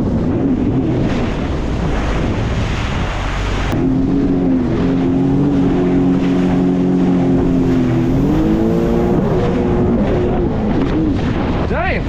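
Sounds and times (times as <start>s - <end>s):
jet ski engine accelerating: 0.0s - 12.0s
wind and water noise: 0.0s - 12.0s.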